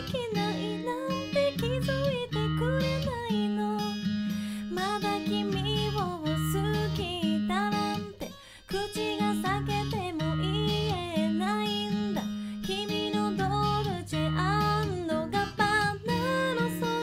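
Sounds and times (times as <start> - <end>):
acoustic guitar: 0.0 - 17.0
woman singing pop ballad: 0.0 - 17.0.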